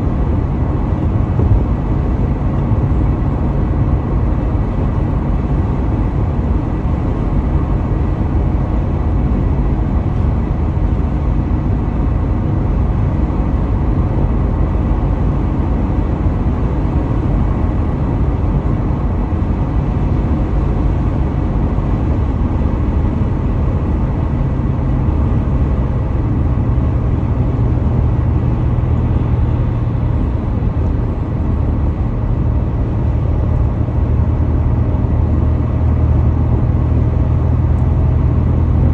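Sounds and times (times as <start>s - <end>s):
car road and tyre rumble: 0.0s - 38.9s.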